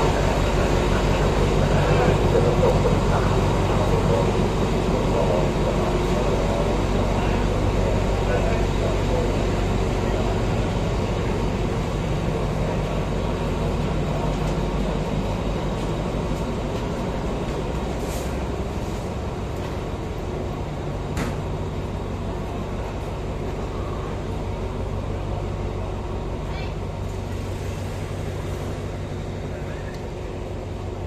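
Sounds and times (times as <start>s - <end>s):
diesel train idling: 0.0s - 31.0s.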